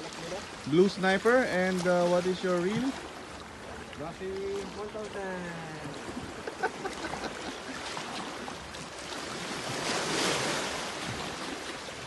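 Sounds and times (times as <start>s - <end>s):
sea waves washing against rocks: 0.0s - 12.0s.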